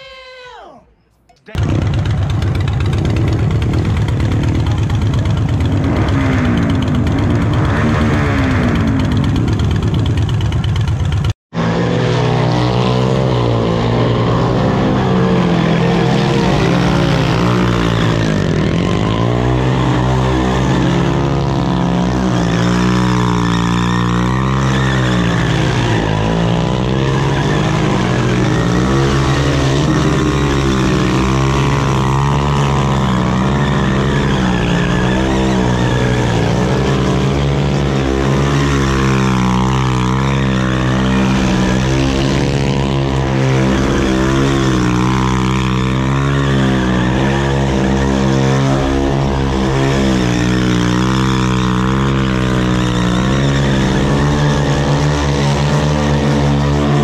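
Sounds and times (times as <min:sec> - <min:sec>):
mini motorcycle engine revving: 0:01.5 - 0:57.0.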